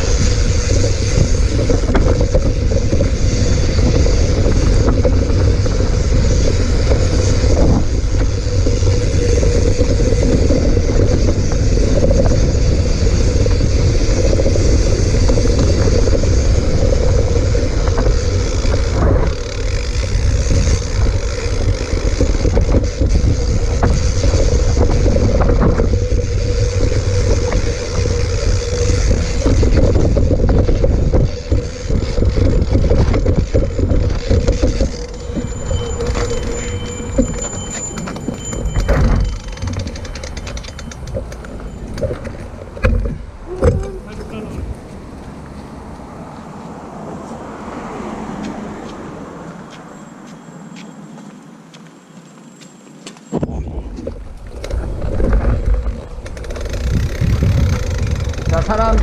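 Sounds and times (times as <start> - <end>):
mountain bike rattling over trail: 0.0 - 46.3, 47.5 - 59.0
wind buffeting microphone: 0.0 - 49.9, 53.3 - 59.0.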